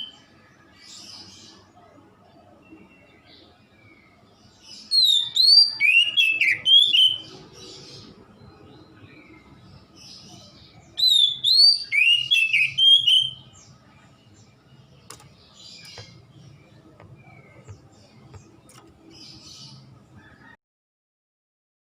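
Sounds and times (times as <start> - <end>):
bird singing whistled notes: 0.0 - 1.8, 2.5 - 19.9
faint bird chirps: 0.0 - 20.6.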